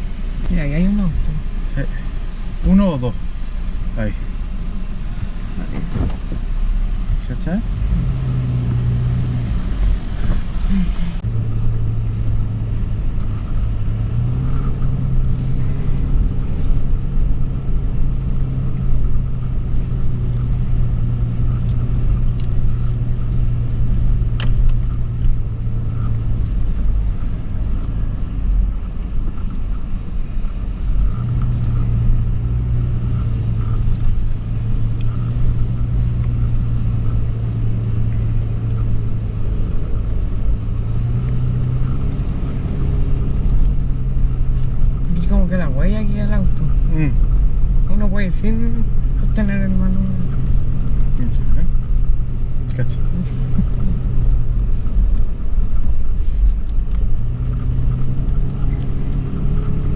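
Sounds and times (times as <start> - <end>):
engine rumbling under load: 0.0 - 59.9.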